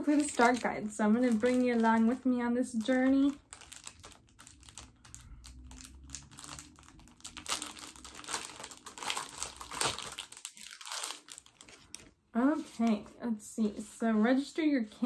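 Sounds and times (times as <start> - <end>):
paper crinkling and rustling: 0.0 - 13.1.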